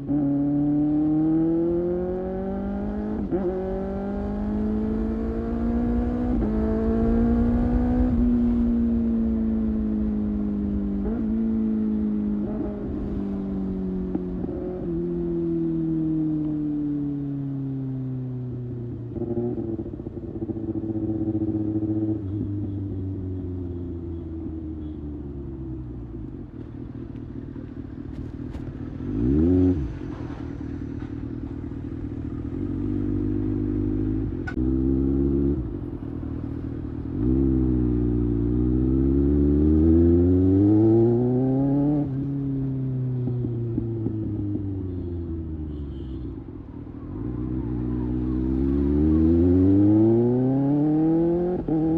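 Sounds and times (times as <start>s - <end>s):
motorcycle engine revving: 0.0s - 17.3s, 18.0s - 25.5s, 28.2s - 46.1s, 47.2s - 51.9s.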